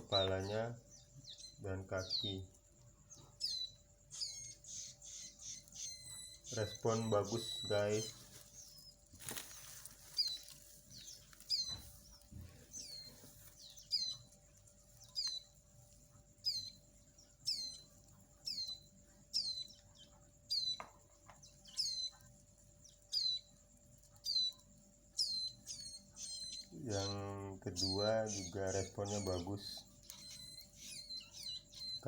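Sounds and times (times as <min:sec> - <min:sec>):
chicks chirping begging calls: 0:00.0 - 0:32.0.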